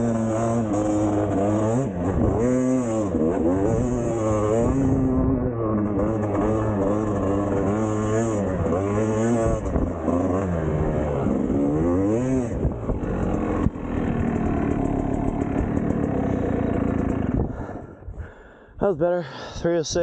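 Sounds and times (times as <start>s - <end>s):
dirt bike engine revving: 0.0s - 18.1s.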